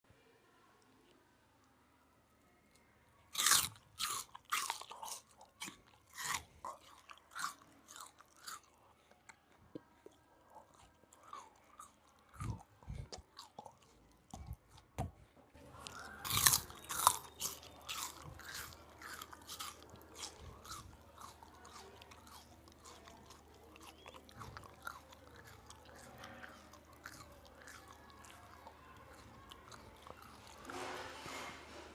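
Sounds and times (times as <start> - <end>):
person chewing crunchy food: 3.3 - 31.4.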